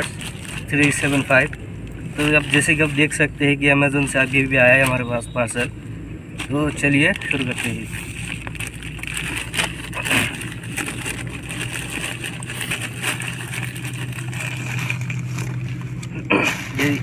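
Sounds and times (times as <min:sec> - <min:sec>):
plastic bag crinkling: 0:00.0 - 0:01.6, 0:02.2 - 0:05.6, 0:06.4 - 0:17.0
low mechanical hum: 0:00.0 - 0:17.0.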